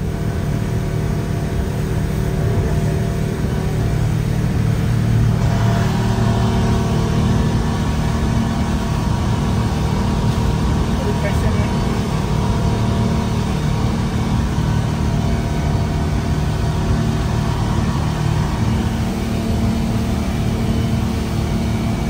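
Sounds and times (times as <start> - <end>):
motorboat engine running: 0.0 - 22.0
water rushing against hull: 0.0 - 22.0.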